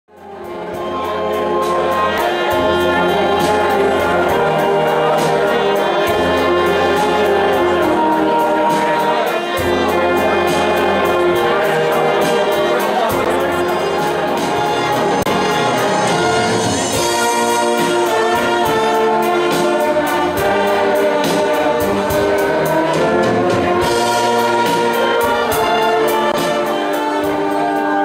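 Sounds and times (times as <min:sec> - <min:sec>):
wind band playing: 0:00.1 - 0:28.0
steady drum beat: 0:00.2 - 0:28.0.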